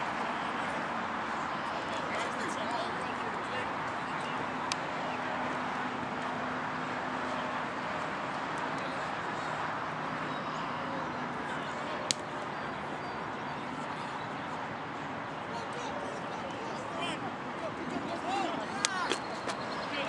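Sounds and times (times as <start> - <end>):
faint distant voices: 0.0 - 20.0.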